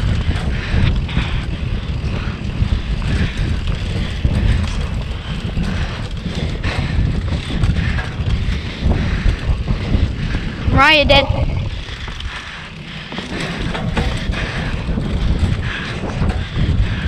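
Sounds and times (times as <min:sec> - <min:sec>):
bike knocking over bumps: 0:00.0 - 0:17.0
wind buffeting microphone: 0:00.0 - 0:17.0.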